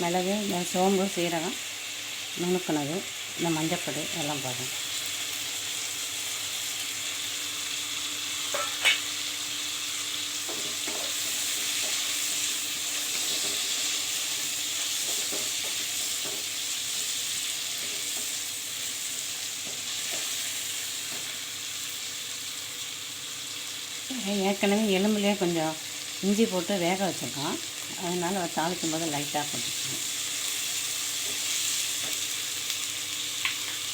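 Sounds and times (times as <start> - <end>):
food sizzling in oil: 0.0 - 33.9.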